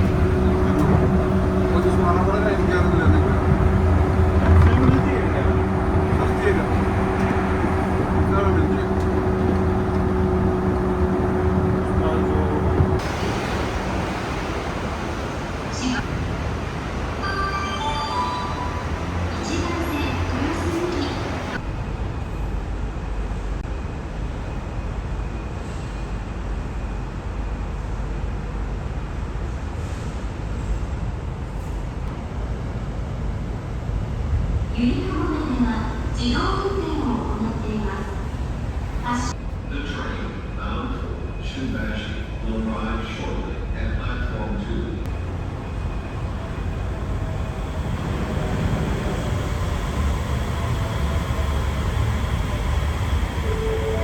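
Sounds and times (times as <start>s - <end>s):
transit car running: 0.0s - 42.4s, 43.0s - 54.0s.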